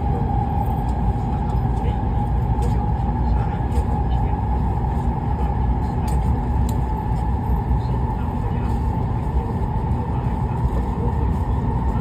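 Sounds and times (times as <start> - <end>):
mid-pitched hum: 0.0 - 12.0
train low rumble: 0.0 - 12.0.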